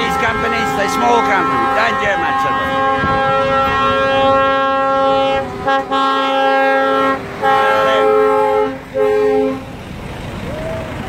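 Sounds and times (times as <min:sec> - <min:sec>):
truck air horn blasts: 0:00.0 - 0:09.8.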